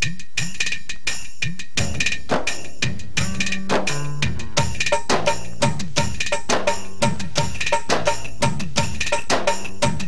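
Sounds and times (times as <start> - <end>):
sharp drum strikes: 1.8 - 10.0.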